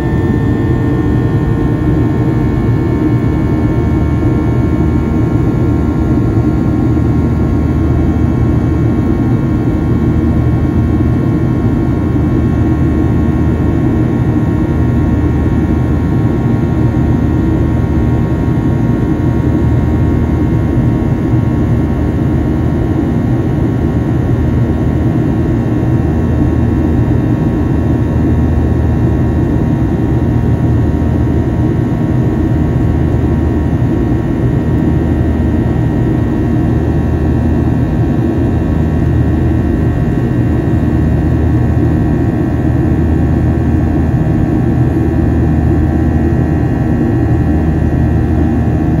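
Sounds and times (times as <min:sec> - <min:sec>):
jet engine hum in cabin: 0:00.0 - 0:49.0.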